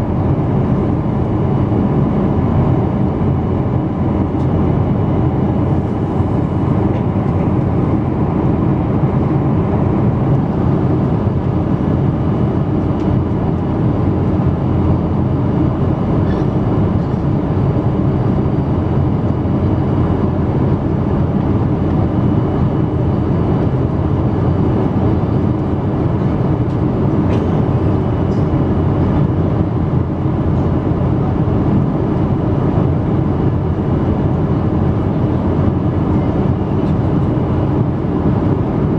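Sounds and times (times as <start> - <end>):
airliner cabin engine roar: 0.0 - 38.9.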